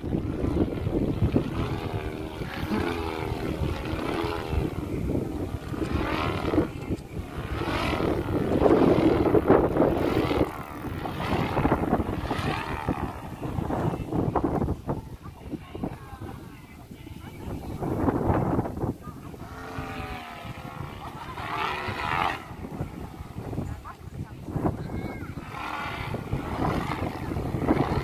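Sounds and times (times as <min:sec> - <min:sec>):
stunt kite whirring hum: 0:00.0 - 0:28.0
wind rumble on microphone: 0:00.0 - 0:28.0.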